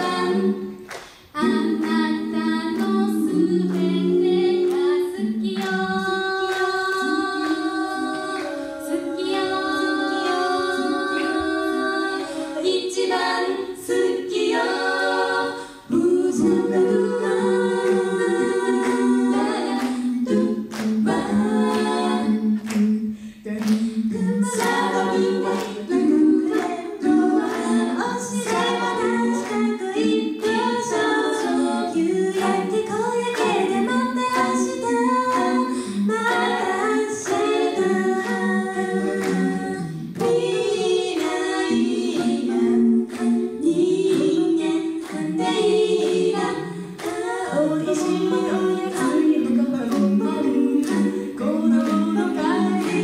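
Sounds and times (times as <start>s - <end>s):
women singing a cappella in harmony: 0.0s - 53.0s.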